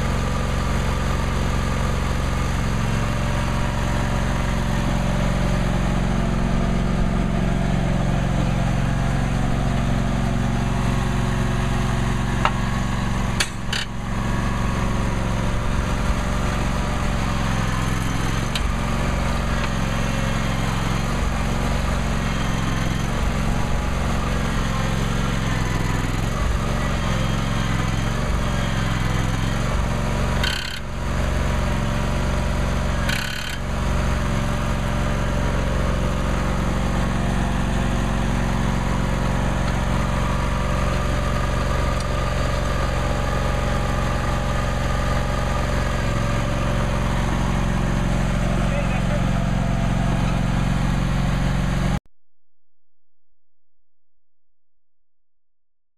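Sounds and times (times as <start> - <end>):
lawn tractor engine running: 0.0 - 52.0.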